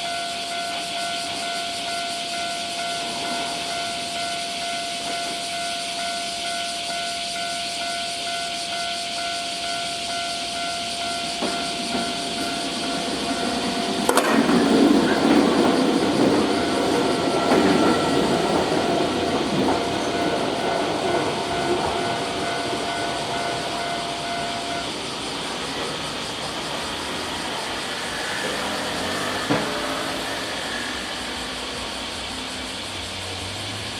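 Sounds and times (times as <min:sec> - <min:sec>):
level crossing warning bell: 0:00.0 - 0:32.4
train rumble: 0:00.0 - 0:33.9.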